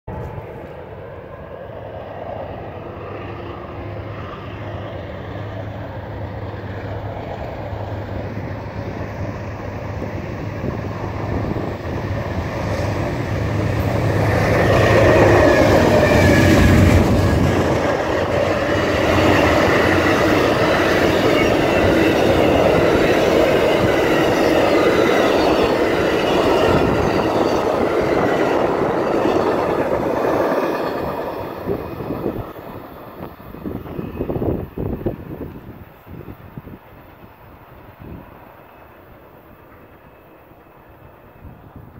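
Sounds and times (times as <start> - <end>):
diesel locomotive engine drone: 0.1 - 41.9.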